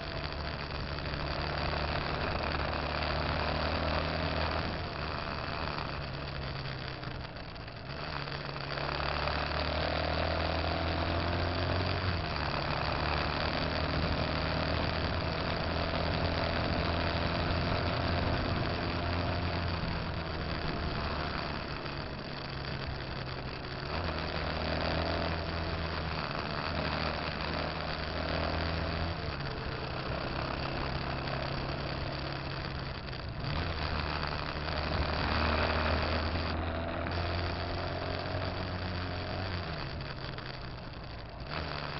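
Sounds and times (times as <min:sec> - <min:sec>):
motorcycle engine shifting gears: 0:00.0 - 0:41.9
wind and road noise: 0:00.0 - 0:41.9.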